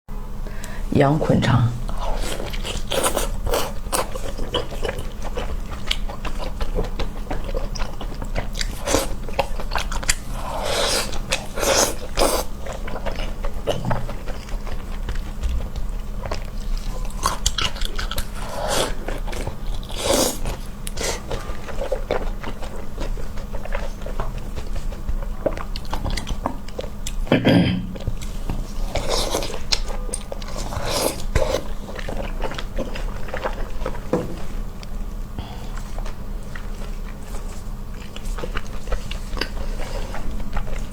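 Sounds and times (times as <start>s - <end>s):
steady low hum: 0.1s - 40.9s
person chewing crunchy food: 1.8s - 40.9s.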